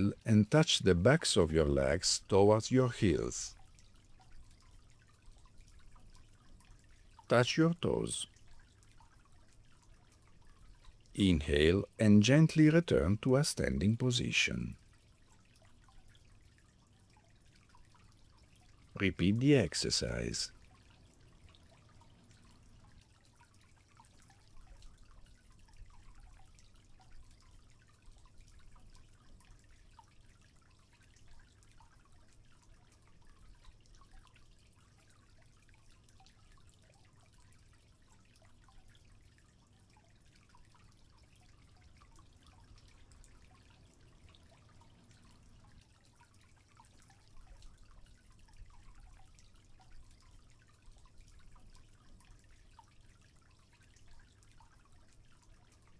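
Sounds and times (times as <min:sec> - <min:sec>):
water trickling: 0:00.0 - 0:55.9
small water drips: 0:03.2 - 0:12.0, 0:12.7 - 0:19.4, 0:20.1 - 0:55.9.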